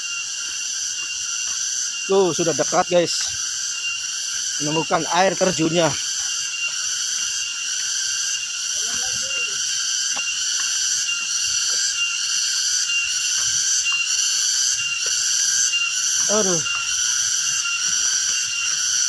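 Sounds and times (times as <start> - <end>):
insects shrilling: 0.0 - 19.0.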